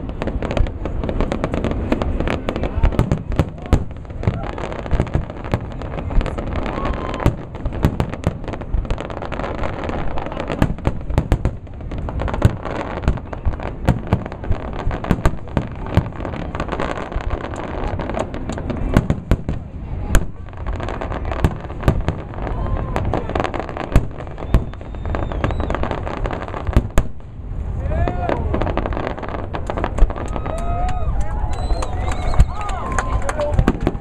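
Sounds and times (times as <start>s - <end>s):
fireworks bangs: 0.0s - 34.0s.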